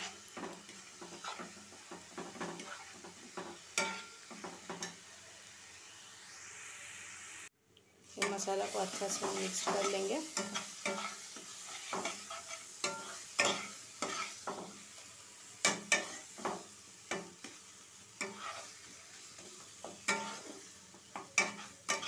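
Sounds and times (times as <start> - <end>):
spatula scraping a pan: 0.0 - 5.0, 8.2 - 22.0
paste sizzling: 0.0 - 22.0.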